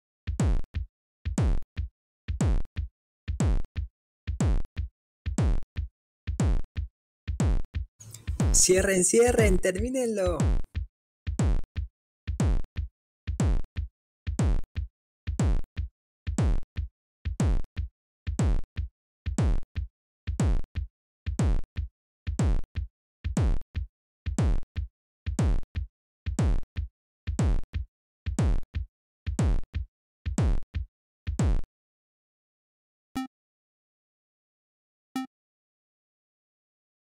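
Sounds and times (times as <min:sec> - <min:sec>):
deep electronic kick drum: 0:00.3 - 0:31.7.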